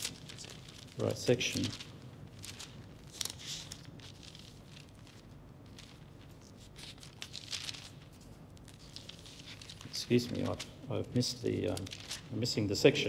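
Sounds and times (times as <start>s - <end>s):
paper pages rustling: 0.0s - 12.6s.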